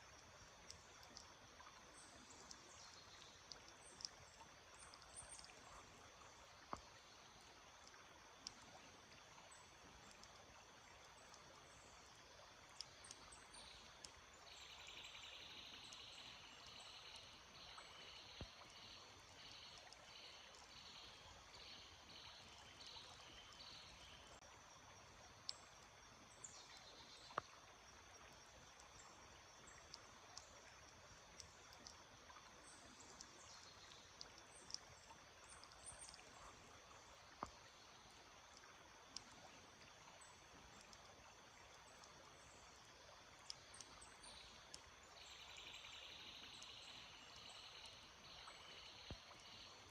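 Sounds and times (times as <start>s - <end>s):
stream water trickling: 0.0s - 49.9s.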